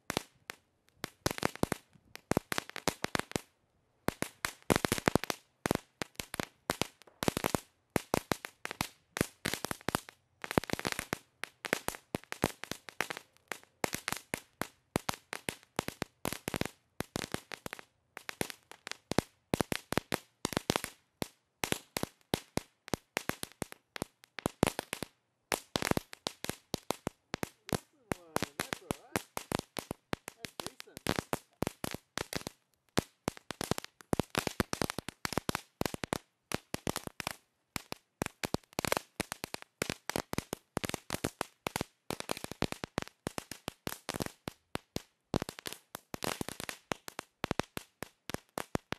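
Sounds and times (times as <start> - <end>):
ground firework crackling: 0.1 - 3.5, 4.1 - 48.9.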